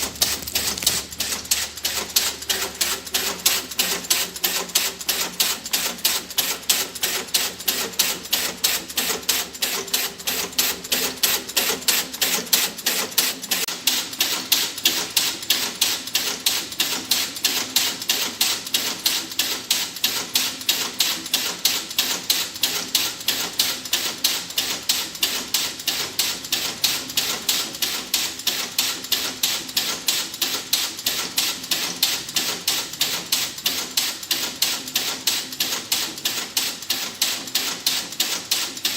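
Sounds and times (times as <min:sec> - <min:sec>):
rhythmic hard clacking: 0:00.0 - 0:38.9.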